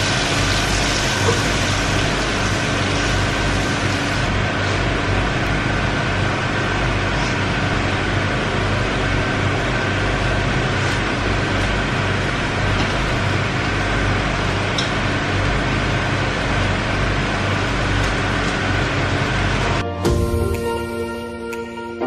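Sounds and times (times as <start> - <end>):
loud machine drone: 0.0 - 22.0.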